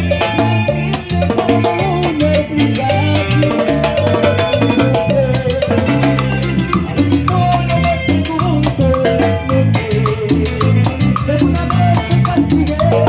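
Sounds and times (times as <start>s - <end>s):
latin dance band playing: 0.0s - 13.0s.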